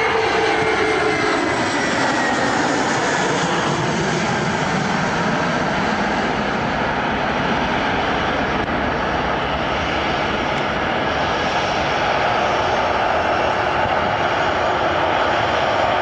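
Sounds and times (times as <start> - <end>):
airliner engines rushing: 0.0 - 16.0.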